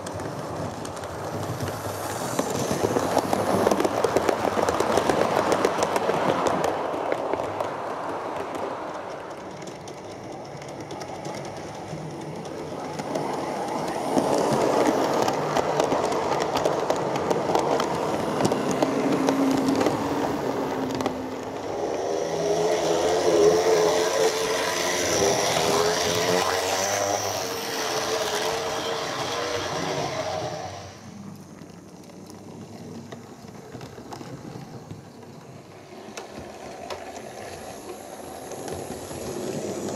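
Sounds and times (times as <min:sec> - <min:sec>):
model train wheels rattling: 0:00.0 - 0:39.9.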